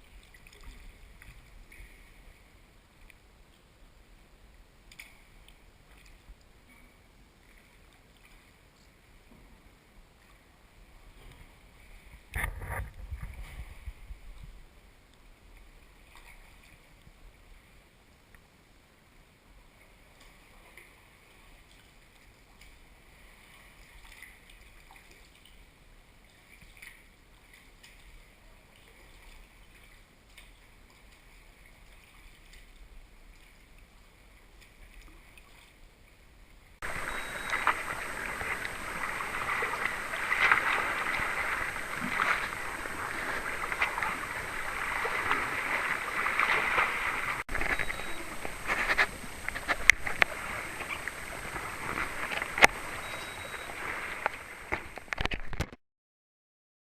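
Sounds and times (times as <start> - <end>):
water splashing around a kayak: 0.0 - 55.7.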